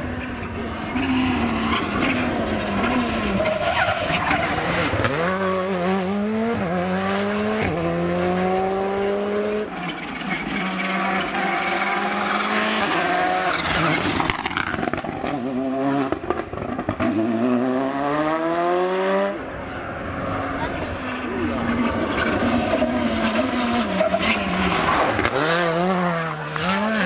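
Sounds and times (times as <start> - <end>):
rally car engine accelerating: 0.0 - 27.0.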